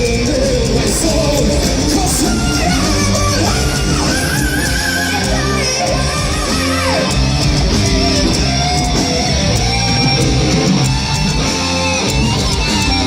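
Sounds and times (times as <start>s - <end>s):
heavy metal band playing: 0.0s - 13.0s
lead guitar bending: 0.0s - 13.0s.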